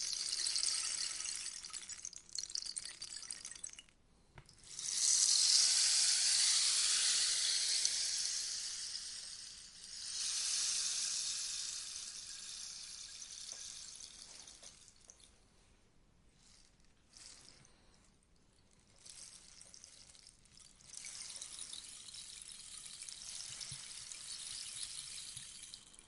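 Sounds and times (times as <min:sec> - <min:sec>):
rainstick pebbles trickling: 0:00.0 - 0:04.0, 0:04.6 - 0:15.3, 0:18.7 - 0:26.0.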